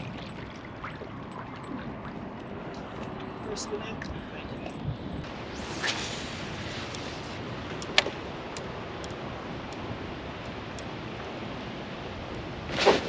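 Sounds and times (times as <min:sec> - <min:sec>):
wind and water hiss: 0:00.0 - 0:13.0.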